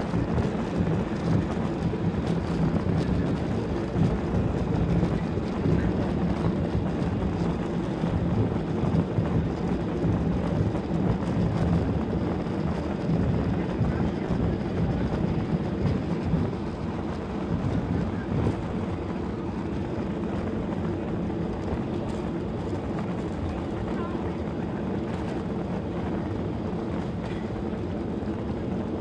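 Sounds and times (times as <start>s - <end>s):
jet engines low rumble: 0.0s - 29.0s
wheels rolling over tarmac: 0.0s - 29.0s.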